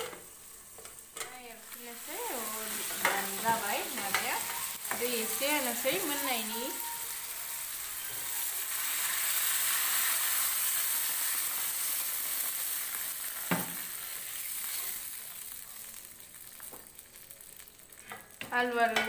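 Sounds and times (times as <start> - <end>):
water sizzling in hot wok: 0.0 - 19.0.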